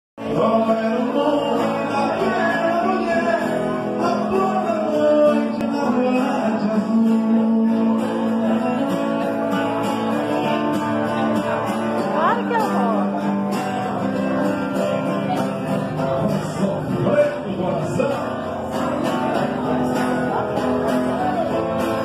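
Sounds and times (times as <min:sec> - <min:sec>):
guitar-led music: 0:00.2 - 0:22.0.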